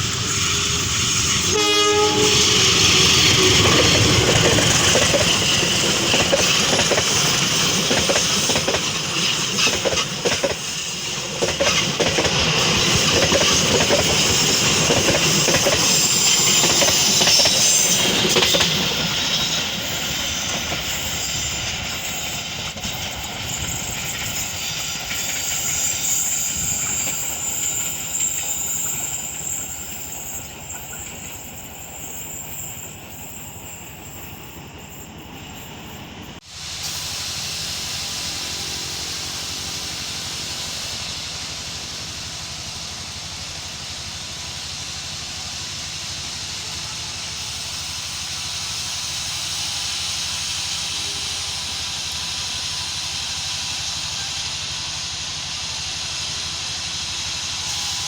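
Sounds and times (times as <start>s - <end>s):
train wheels clacking over rails: 0.0s - 58.0s.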